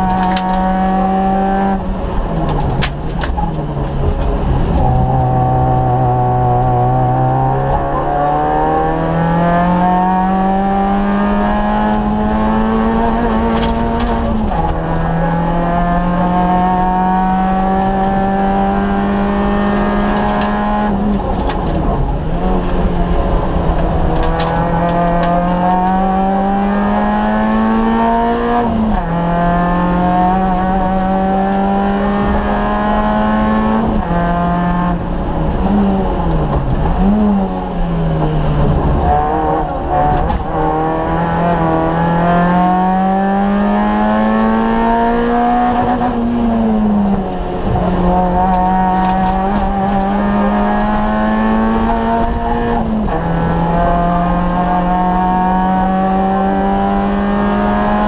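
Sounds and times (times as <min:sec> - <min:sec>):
car knocks and clicks: 0:00.0 - 0:58.0
rally car engine revving: 0:00.0 - 0:58.0.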